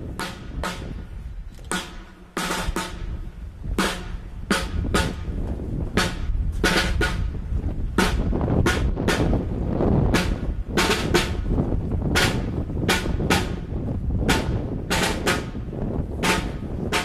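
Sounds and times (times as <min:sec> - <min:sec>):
steady low rumble: 0:00.0 - 0:17.0
snare drums beating a slow march: 0:00.1 - 0:17.0.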